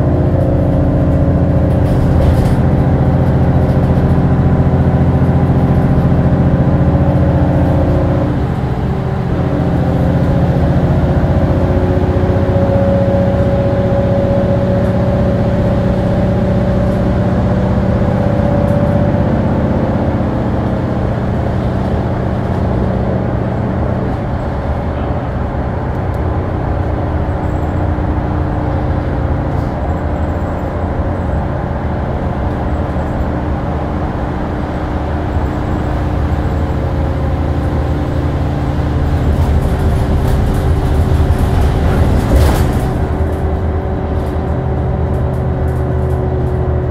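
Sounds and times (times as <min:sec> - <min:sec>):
bus diesel engine running: 0:00.0 - 0:46.9
drivetrain whine: 0:00.0 - 0:46.9.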